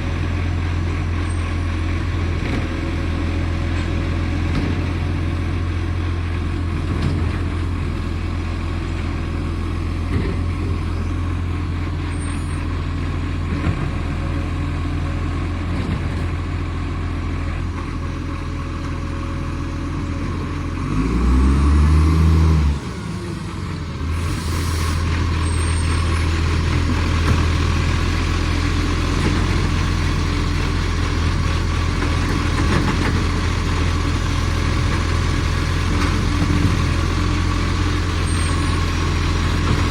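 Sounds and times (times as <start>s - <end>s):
diesel engine with exhaust leak: 0.0s - 39.9s.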